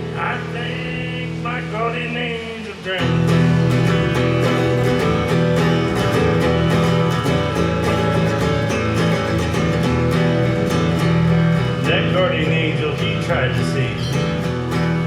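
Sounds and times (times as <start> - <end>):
acoustic guitar strumming: 0.0 - 15.0
sustained bass notes: 0.0 - 15.0.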